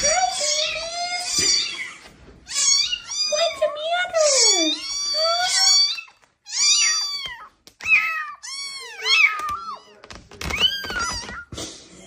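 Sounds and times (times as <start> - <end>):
cat meowing: 0.0 - 11.5.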